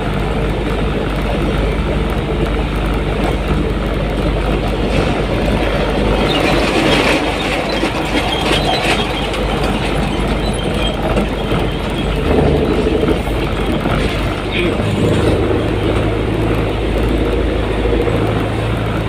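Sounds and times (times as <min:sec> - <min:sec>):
rattling in vehicle cabin: 0:00.0 - 0:19.0
vehicle engine and tyre noise: 0:00.0 - 0:19.0.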